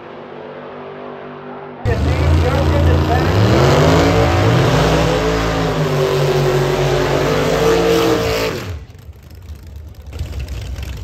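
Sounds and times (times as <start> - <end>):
drag car engine revving: 0.1 - 11.0
tires spinning: 1.9 - 11.0.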